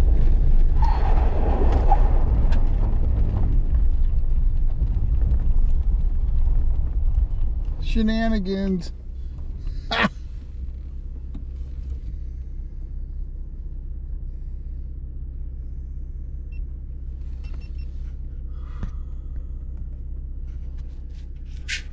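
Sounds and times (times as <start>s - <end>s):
off-road vehicle engine and tyres rumbling: 0.0s - 21.9s.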